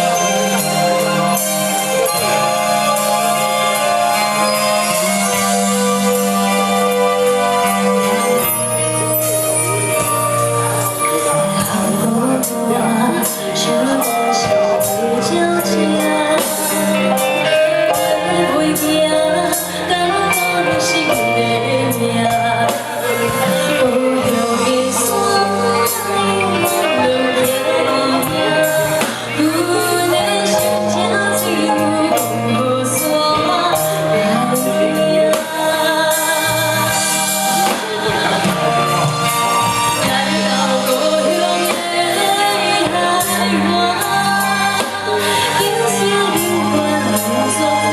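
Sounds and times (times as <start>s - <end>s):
live band music: 0.0s - 47.9s
woman singing: 0.0s - 47.9s.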